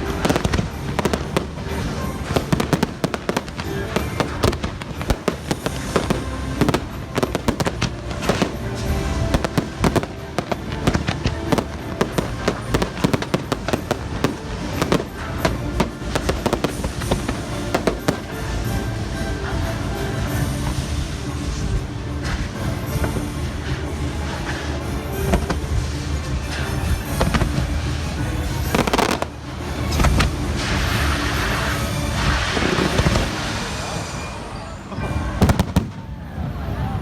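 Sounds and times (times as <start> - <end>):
show music: 0.0 - 36.2
fireworks bursting and crackling: 0.0 - 37.0.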